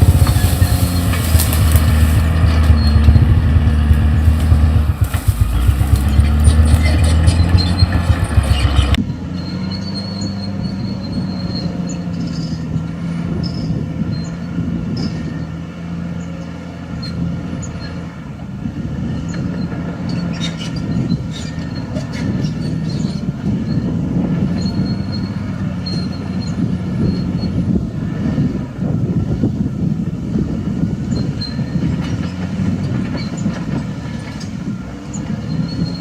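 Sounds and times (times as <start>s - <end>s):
steel tracks squealing: 0.0s - 15.6s, 18.9s - 29.0s, 29.8s - 36.0s
bulldozer diesel engine running: 0.0s - 36.0s.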